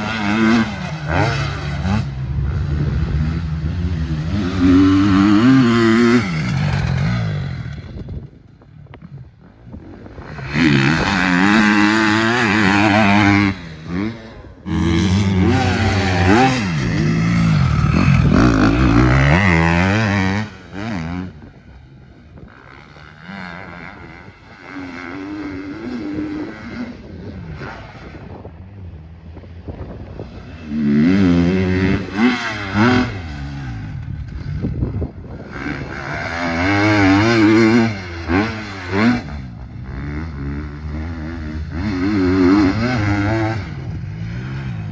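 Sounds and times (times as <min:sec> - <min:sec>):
motocross bike engine revving: 0:00.0 - 0:08.3, 0:10.2 - 0:28.2, 0:30.2 - 0:44.9.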